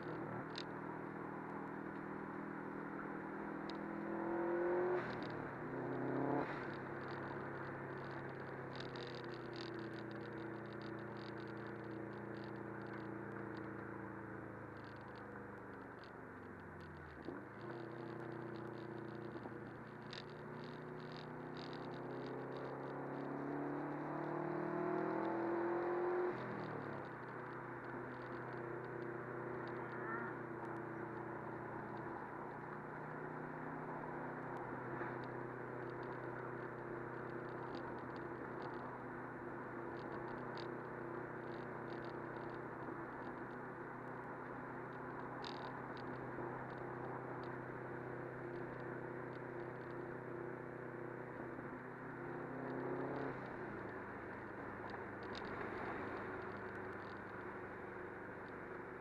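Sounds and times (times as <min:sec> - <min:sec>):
faint ticks: 0:00.0 - 0:00.8, 0:03.6 - 0:04.1, 0:04.8 - 0:50.3, 0:51.2 - 0:59.0
car engine cruising: 0:00.0 - 0:59.0
road noise: 0:00.0 - 0:59.0.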